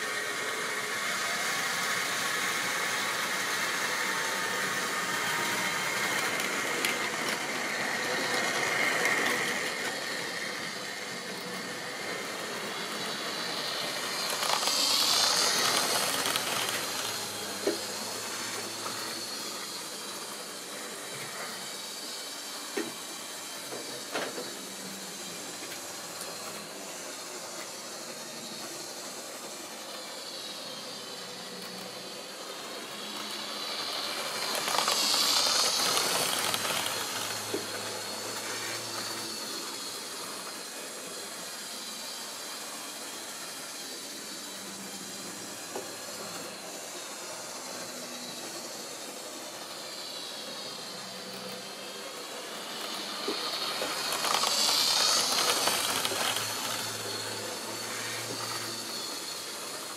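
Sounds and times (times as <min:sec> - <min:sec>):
model train motors whining: 0:00.0 - 0:59.9.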